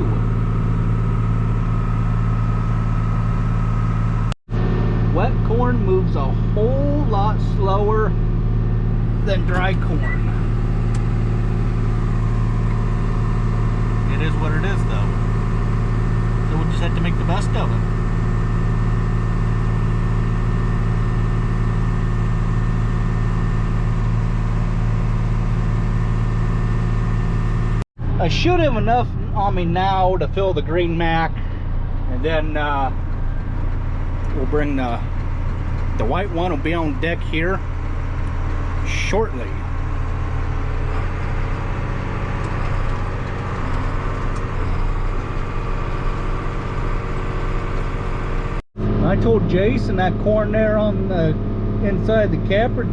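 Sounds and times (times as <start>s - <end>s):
tractor diesel engine droning: 0.0s - 52.9s.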